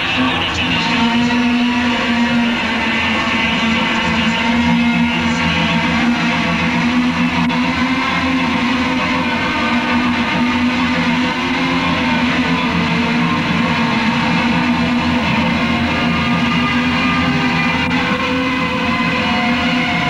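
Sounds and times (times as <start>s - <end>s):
electric guitar droning chords: 0.0s - 20.0s.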